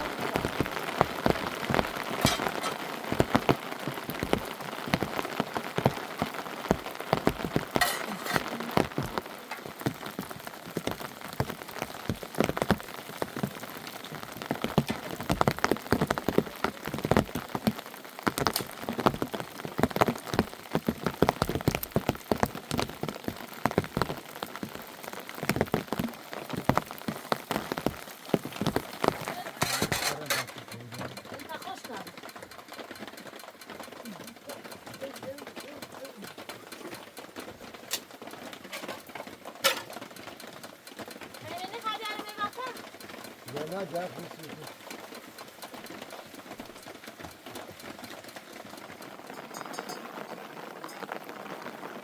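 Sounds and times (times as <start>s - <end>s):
rain falling: 0.0s - 52.0s
raindrops tapping on a surface: 0.0s - 52.0s.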